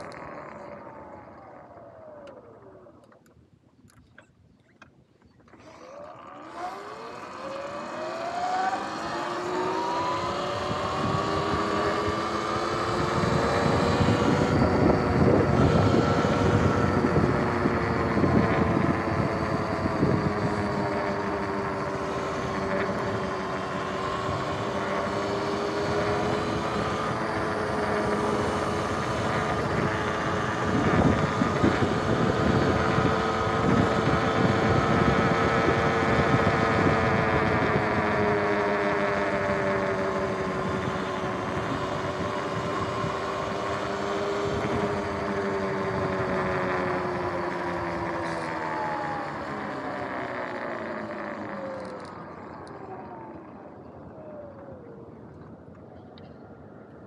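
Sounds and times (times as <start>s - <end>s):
electric motor whining: 0.0s - 3.3s, 5.5s - 55.5s
wind and tyre noise: 0.0s - 57.0s.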